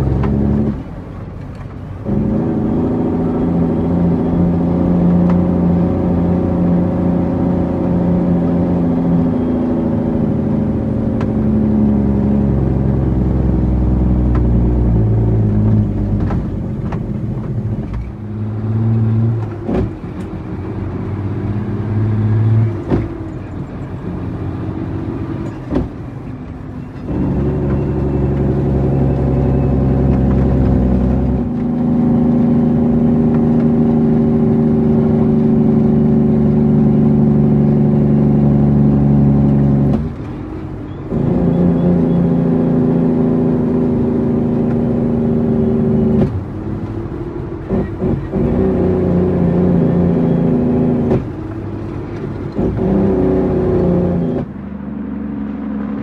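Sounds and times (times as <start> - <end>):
truck diesel engine under load: 0.0 - 56.0.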